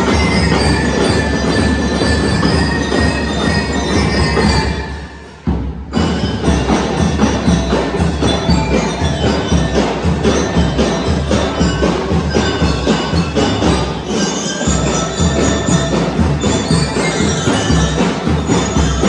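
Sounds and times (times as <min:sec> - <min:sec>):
bell lyres ringing: 0:00.0 - 0:19.0
marching drums: 0:00.0 - 0:19.0.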